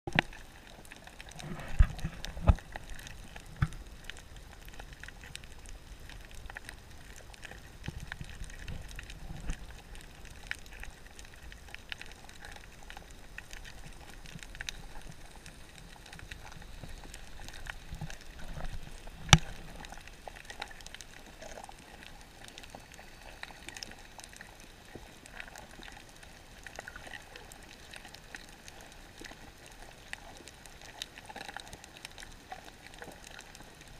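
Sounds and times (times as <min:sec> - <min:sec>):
underwater crackle of pops: 0:00.1 - 0:33.9.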